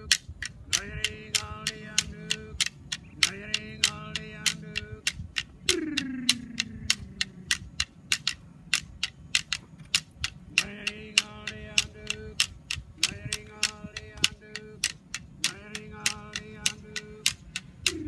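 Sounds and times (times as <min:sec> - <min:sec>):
man singing: 0:00.0 - 0:07.6, 0:10.5 - 0:18.0
clapsticks clicking: 0:00.0 - 0:18.0.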